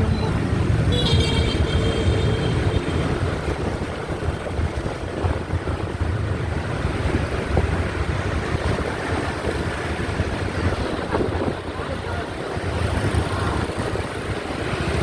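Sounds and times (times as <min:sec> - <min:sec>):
motorbike riding noise: 0:00.0 - 0:15.0
wind rumbling on microphone: 0:00.0 - 0:15.0.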